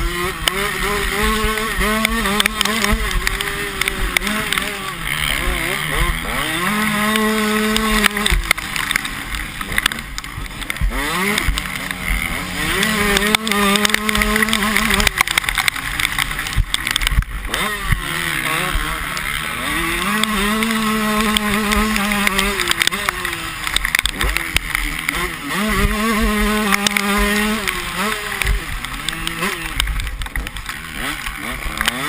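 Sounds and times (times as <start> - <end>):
motocross bike engines revving: 0.0 - 32.0.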